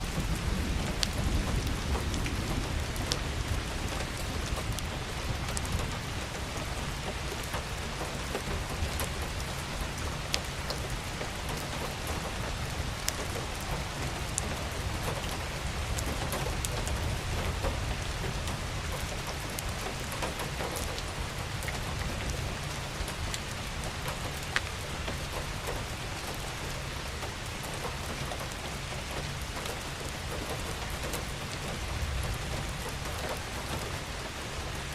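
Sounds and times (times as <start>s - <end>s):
steady rain falling: 0.0s - 34.9s
raindrop ticks: 0.1s - 34.9s.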